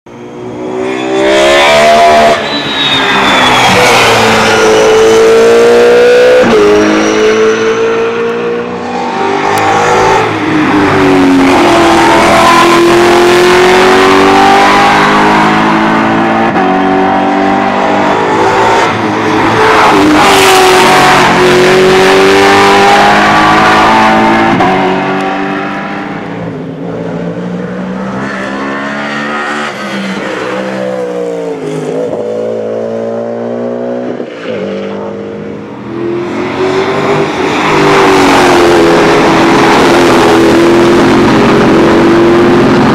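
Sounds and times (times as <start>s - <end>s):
racing car engines accelerating: 0.2s - 42.9s.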